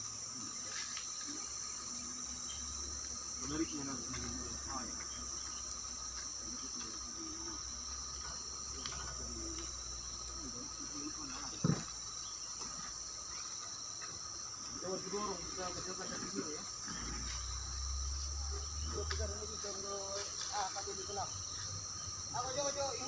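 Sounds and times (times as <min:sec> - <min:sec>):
shrill insect chorus: 0:00.0 - 0:23.0.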